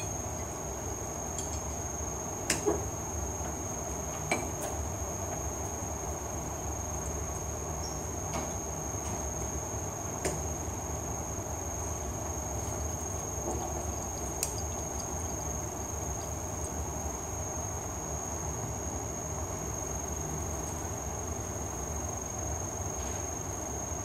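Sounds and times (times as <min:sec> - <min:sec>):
constant high-pitched whine: 0:00.0 - 0:24.0.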